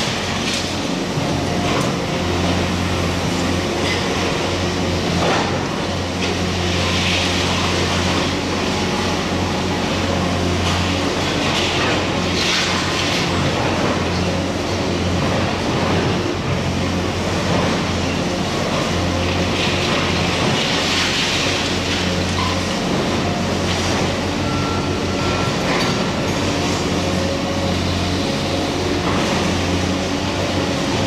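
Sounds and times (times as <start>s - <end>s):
excavator diesel engines droning: 0.0s - 31.0s.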